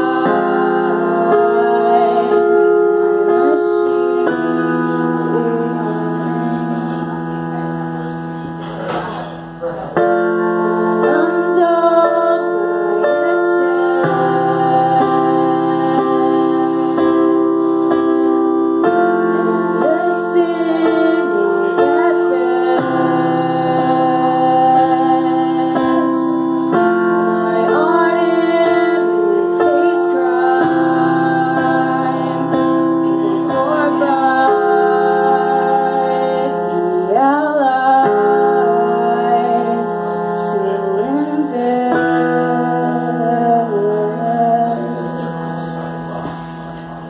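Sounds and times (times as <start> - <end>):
woman singing: 0.0 - 7.8, 10.1 - 46.5
electric keyboard chords: 0.0 - 47.0.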